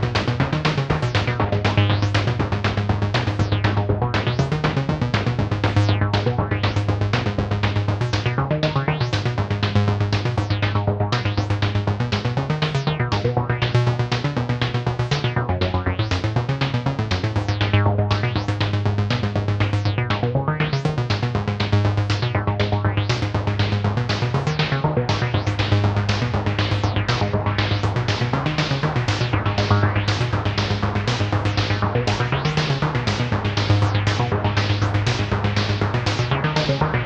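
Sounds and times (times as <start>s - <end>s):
analog synth bass line: 0.0s - 37.0s
synthesized percussion pattern: 0.0s - 37.0s.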